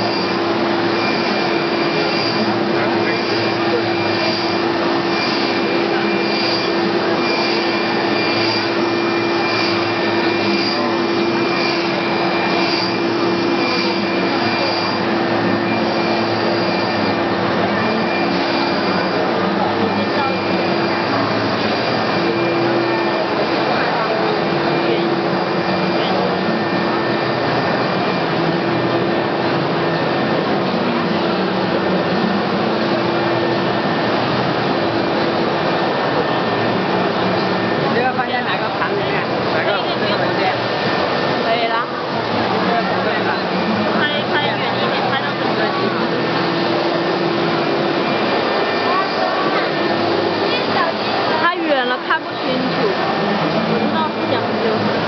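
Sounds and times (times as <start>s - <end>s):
babble of many voices: 0.0s - 55.0s
printer machine whir: 0.0s - 55.0s.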